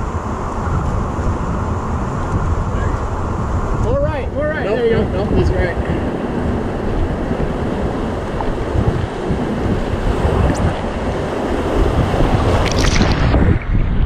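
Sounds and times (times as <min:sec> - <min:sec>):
river water rushing around raft: 0:00.0 - 0:13.4
wind buffeting microphone: 0:00.0 - 0:14.0.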